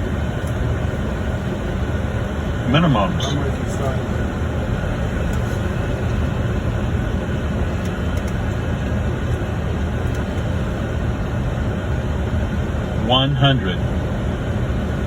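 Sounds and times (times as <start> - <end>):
airliner cockpit airflow and engine: 0.0 - 15.0.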